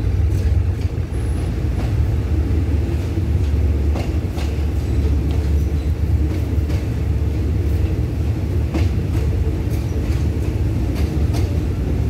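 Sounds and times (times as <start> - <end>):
train rumble on board: 0.0 - 12.0
wheel clack over rail joints: 0.0 - 12.0.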